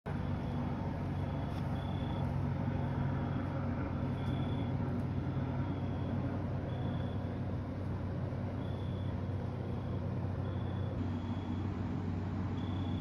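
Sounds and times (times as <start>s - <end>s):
low mechanical motor hum: 0.1s - 13.0s.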